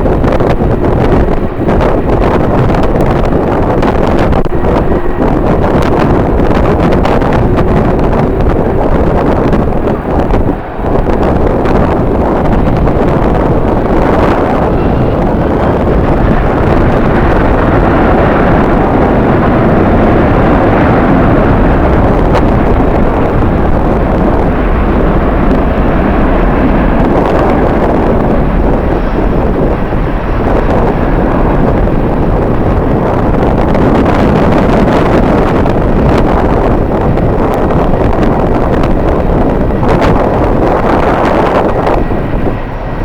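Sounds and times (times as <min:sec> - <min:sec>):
strong wind buffeting microphone: 0:00.0 - 0:43.0.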